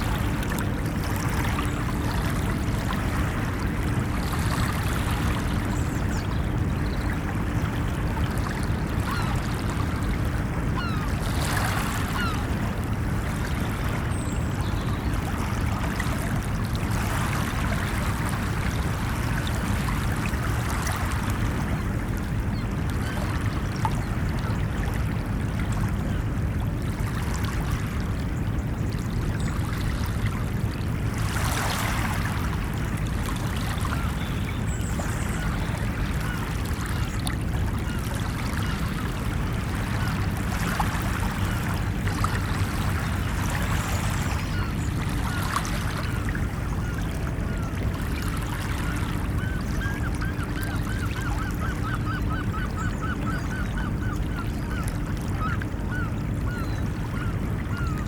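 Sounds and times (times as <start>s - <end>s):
ocean waves washing onto beach: 0.0s - 52.8s.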